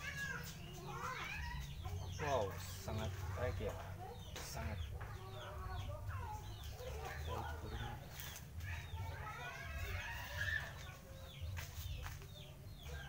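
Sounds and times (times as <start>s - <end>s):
chickens clucking: 0.1s - 13.0s.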